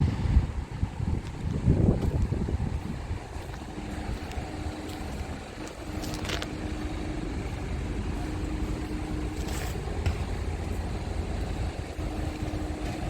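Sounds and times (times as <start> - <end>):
truck diesel engine idling: 0.0 - 13.0
wind rumbling on microphone: 0.0 - 13.0.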